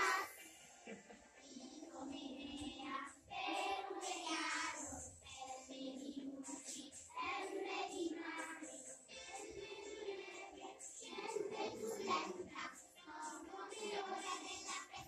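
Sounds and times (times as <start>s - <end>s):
children singing in chorus: 0.0s - 0.5s, 1.4s - 15.0s.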